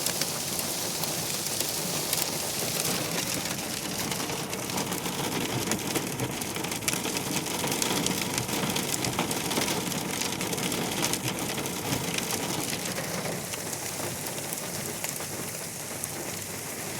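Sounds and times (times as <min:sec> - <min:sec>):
hail and heavy rain pelting: 0:00.0 - 0:16.9
hailstones striking: 0:00.0 - 0:16.9.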